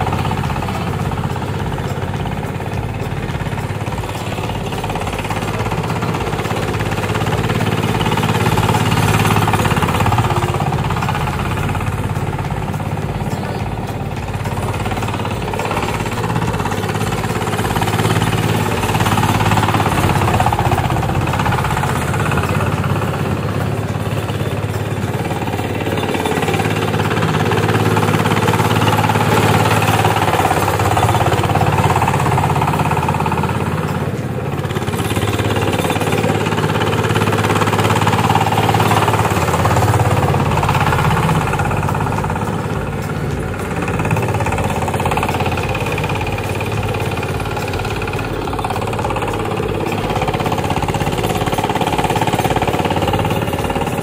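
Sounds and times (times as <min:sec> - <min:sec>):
diesel engine pounding under load: 0:00.0 - 0:54.0.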